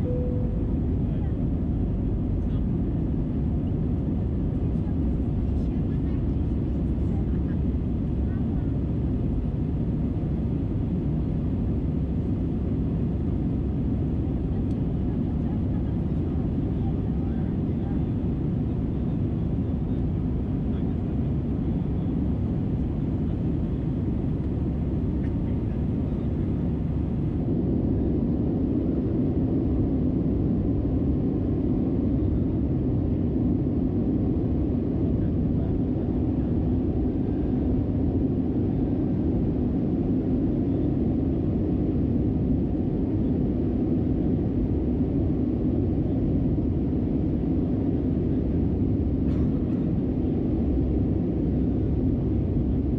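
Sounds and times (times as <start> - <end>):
engine and airflow rumble: 0.0 - 52.9.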